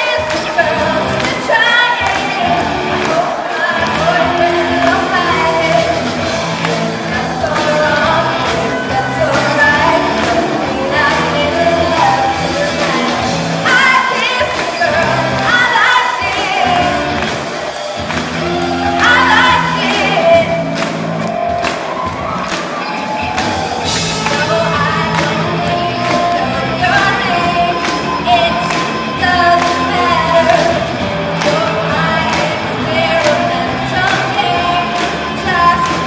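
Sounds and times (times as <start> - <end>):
crowd singing along: 0.0 - 20.8, 23.1 - 36.0
lead vocalist singing: 0.0 - 20.8, 23.6 - 36.0
guitar: 0.0 - 36.0
held bass notes: 0.5 - 13.9, 14.8 - 15.7, 16.5 - 22.4, 23.5 - 36.0.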